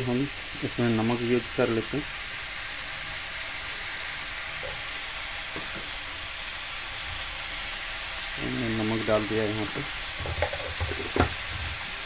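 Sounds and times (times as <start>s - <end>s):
vegetables frying in hot oil: 0.0s - 12.0s.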